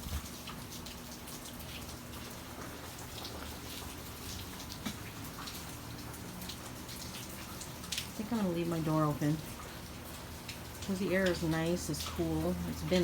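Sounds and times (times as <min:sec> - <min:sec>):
rain falling: 0:00.0 - 0:13.0
raindrops splashing: 0:00.0 - 0:13.0.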